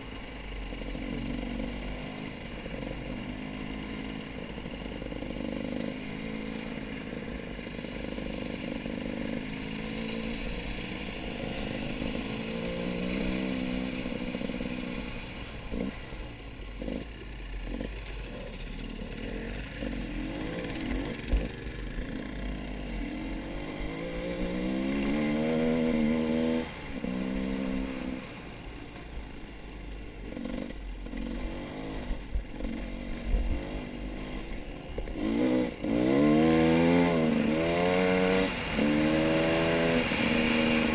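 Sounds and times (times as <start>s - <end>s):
engine revving: 0.6s - 40.9s.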